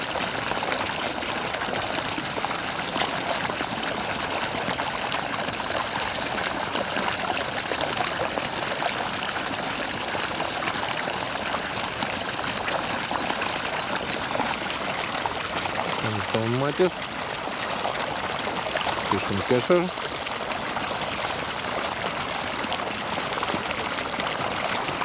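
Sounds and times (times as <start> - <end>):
running water trickling: 0.0 - 25.0.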